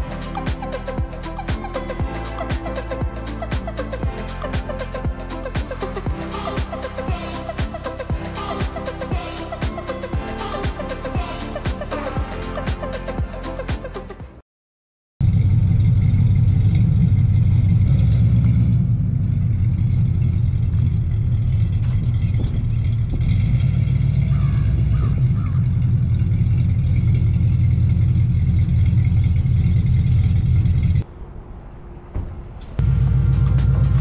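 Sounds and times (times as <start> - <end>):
truck engine rumbling: 0.0 - 14.2, 15.2 - 34.0.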